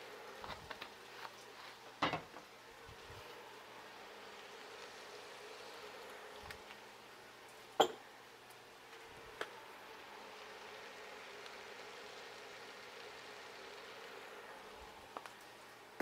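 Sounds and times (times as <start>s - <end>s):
induction cooktop hum and buzz: 0.0s - 16.0s
soft sizzle: 0.0s - 16.0s.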